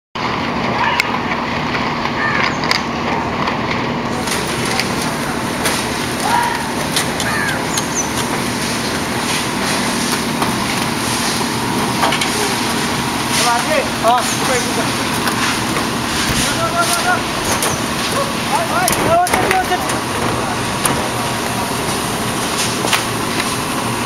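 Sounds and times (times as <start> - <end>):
machine running: 0.2 - 24.0.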